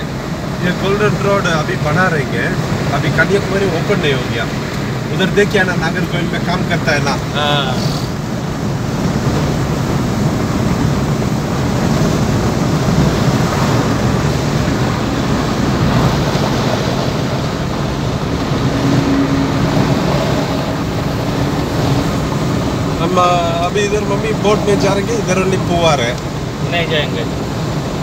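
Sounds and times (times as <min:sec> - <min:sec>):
car road and wind noise: 0:00.0 - 0:28.0.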